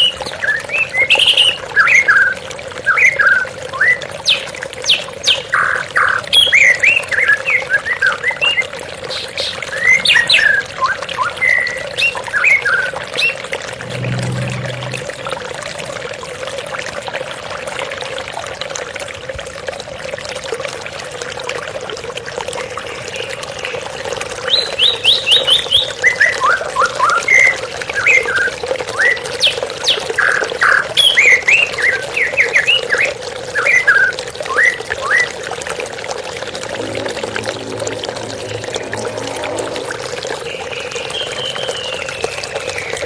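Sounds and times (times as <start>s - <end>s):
flowing water: 0.0s - 43.0s.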